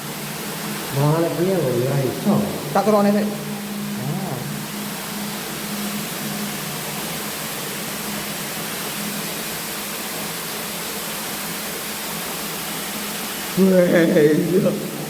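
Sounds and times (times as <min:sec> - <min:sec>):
low constant hum: 0:00.0 - 0:15.0
steady hiss: 0:00.0 - 0:15.0.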